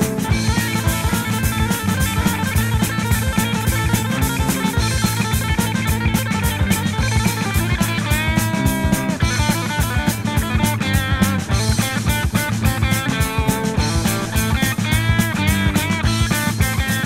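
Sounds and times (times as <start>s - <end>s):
driving rock drumming: 0.0s - 17.0s
electric guitar: 0.0s - 17.0s.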